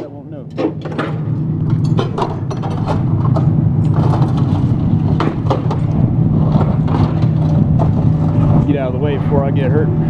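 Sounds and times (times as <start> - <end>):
diesel excavator engines running: 0.0 - 10.0.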